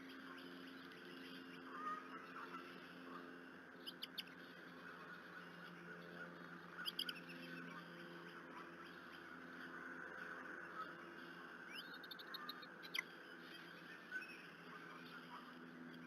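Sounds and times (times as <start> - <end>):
faint bird chirps: 0.0 - 9.4, 10.2 - 16.0
steady low hum: 0.0 - 16.0.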